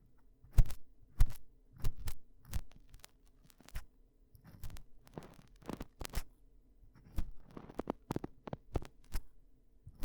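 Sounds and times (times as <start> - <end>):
tool scratching and tapping microphone: 0.5 - 6.3, 6.9 - 9.3.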